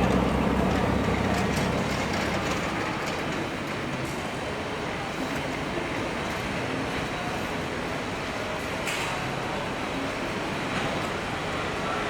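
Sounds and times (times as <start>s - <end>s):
metro station rumble and hiss: 0.0s - 12.0s.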